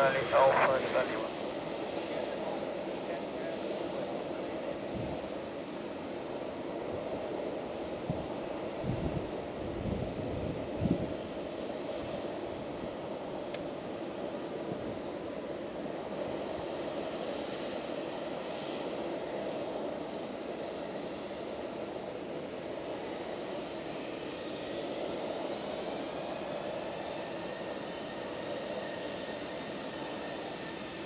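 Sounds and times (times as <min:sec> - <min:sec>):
high turbine whine: 0:00.0 - 0:31.0
jet engines rushing hum: 0:00.0 - 0:31.0.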